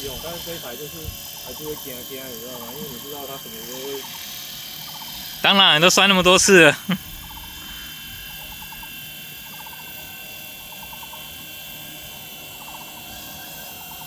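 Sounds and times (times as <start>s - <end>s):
model helicopter whine: 0.0s - 14.0s.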